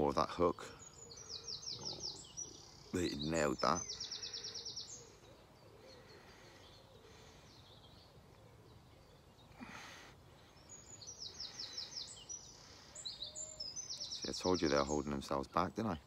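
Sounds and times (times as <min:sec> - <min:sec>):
bird trill: 0:00.0 - 0:09.7, 0:10.6 - 0:15.4
faint birdsong: 0:00.0 - 0:16.0.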